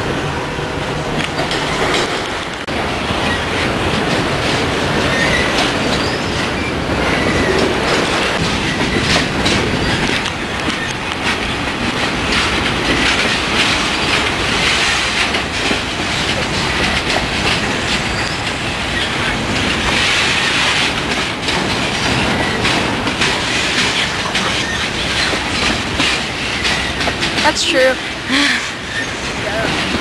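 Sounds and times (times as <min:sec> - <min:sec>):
freight train rumbling past: 0:00.0 - 0:30.0
wheels clacking over rail joints: 0:00.3 - 0:30.0.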